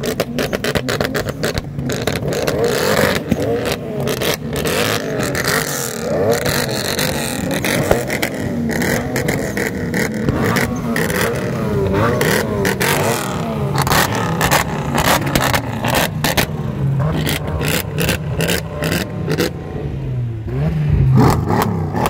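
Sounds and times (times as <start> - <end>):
exhaust pops and cracks: 0.0 - 18.7
car engines revving: 0.0 - 22.0.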